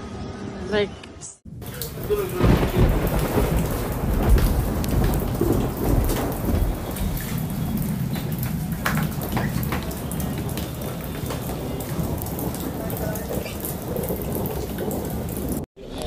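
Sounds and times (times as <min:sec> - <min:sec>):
water sloshing on tiled floor: 0:01.6 - 0:15.7.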